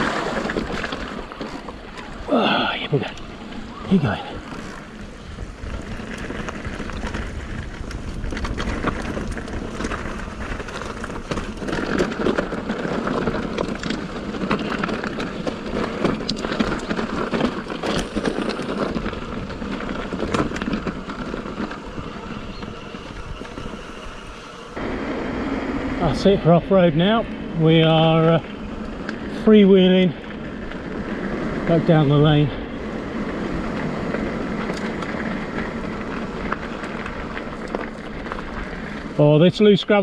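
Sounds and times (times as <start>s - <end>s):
tyres crunching on stones: 0.0s - 24.9s, 27.1s - 40.0s
bike rattling: 0.0s - 40.0s
wind rumbling on microphone: 0.0s - 40.0s.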